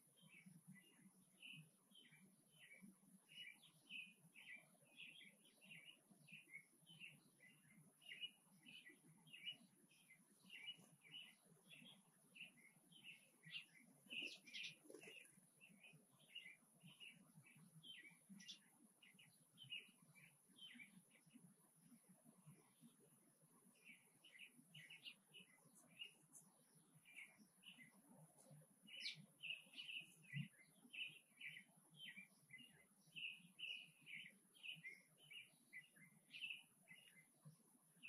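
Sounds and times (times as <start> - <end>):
faint bird chirping: 0.0 - 38.0.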